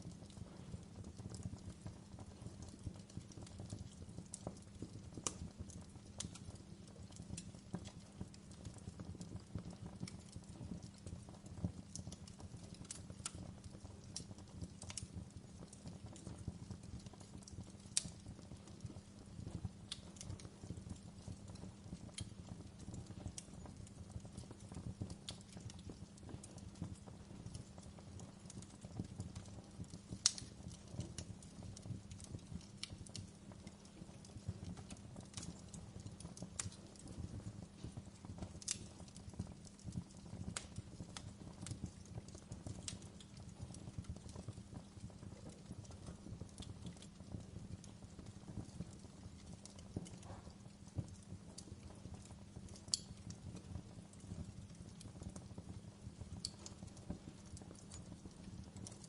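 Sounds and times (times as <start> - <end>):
low rumble of flames: 0.0 - 59.0
wood fire popping and snapping: 0.0 - 59.0.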